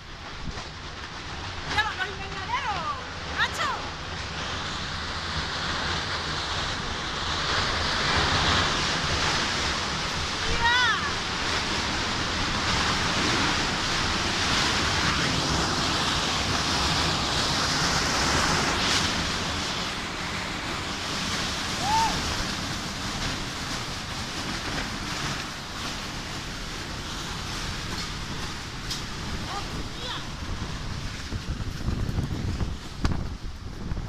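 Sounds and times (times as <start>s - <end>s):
strong wind buffeting microphone: 0.0s - 34.0s.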